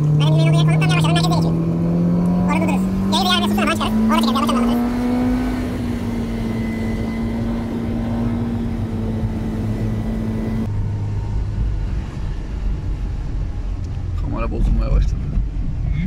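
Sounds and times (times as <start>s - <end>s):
car engine hum: 0.0s - 16.0s
low road rumble: 0.0s - 16.0s.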